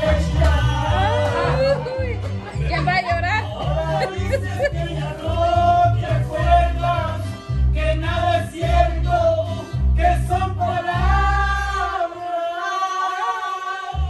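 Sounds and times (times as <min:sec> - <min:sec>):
heavy bass beat: 0:00.0 - 0:11.8
person singing: 0:00.0 - 0:14.0.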